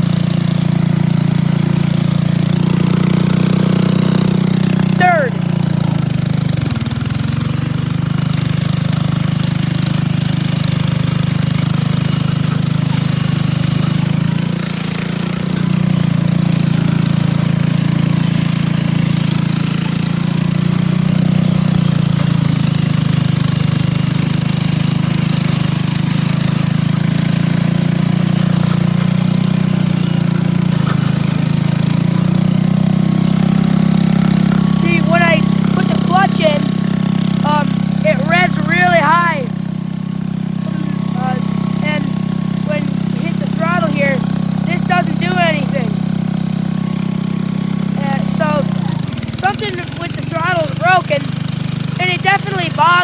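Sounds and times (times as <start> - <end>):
garden tractor engine running: 0.0 - 53.0.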